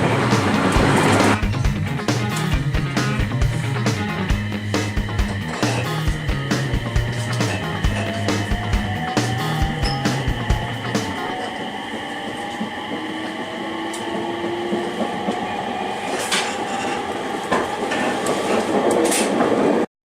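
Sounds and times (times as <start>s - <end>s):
train rumbling on rails: 0.0s - 19.9s.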